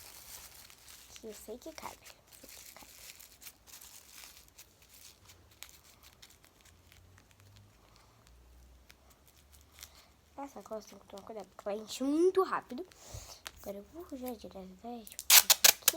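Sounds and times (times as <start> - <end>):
plastic bag crinkling: 0.0 - 11.9, 15.0 - 15.9.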